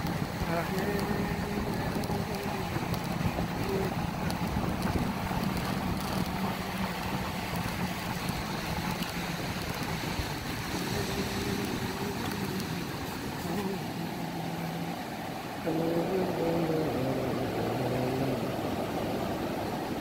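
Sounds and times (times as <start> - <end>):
ocean surf breaking on a beach: 0.0 - 20.0
wind rumbling on microphone: 0.0 - 20.0.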